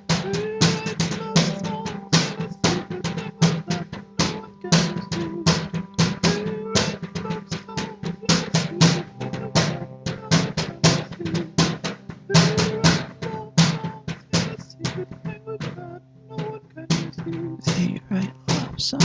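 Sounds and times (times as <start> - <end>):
driving drum beat: 0.0 - 19.0.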